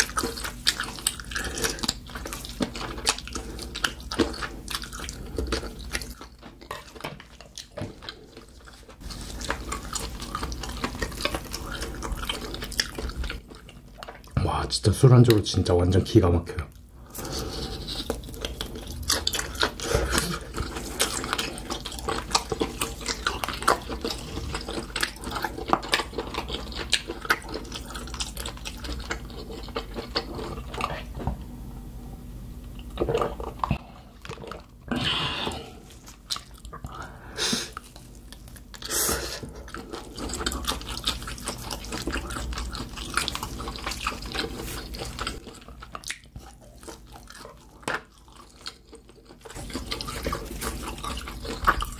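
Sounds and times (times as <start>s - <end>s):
wet chewing: 0.0s - 14.4s, 16.7s - 31.2s, 32.7s - 51.9s.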